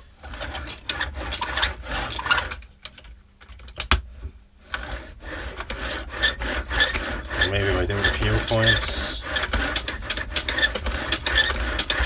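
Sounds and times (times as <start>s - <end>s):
paint roller rolling: 0.0s - 3.0s, 4.0s - 12.0s.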